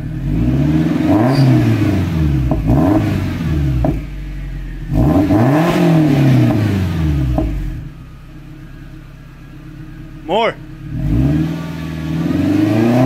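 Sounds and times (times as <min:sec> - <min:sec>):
car engine idling: 0:00.0 - 0:13.0
car engine revving: 0:00.0 - 0:13.0
exhaust pops: 0:01.1 - 0:12.0.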